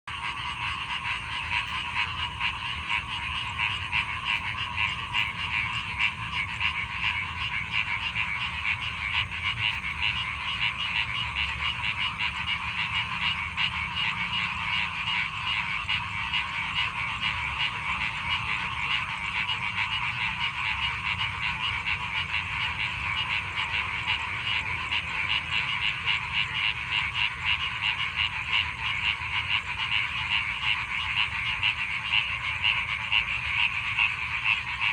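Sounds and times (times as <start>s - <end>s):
chorus of frogs calling: 0.1s - 34.9s.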